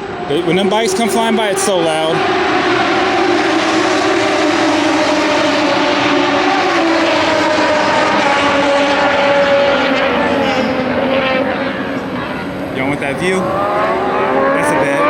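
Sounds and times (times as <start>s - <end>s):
racing motorcycle engines: 0.0s - 15.0s.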